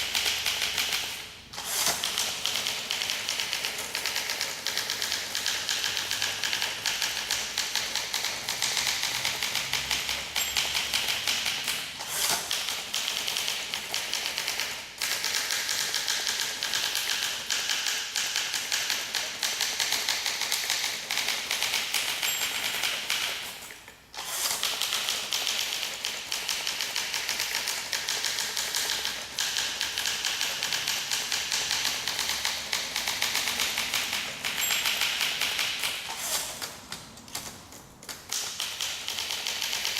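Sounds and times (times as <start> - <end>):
typewriter key clacks: 1.7 - 23.8, 24.6 - 39.9.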